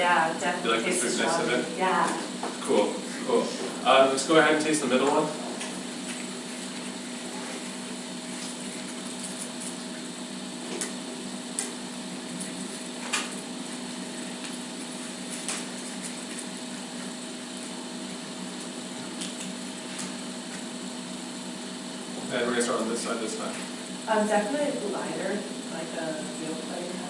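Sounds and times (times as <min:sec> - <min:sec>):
room hum: 0:00.0 - 0:27.0.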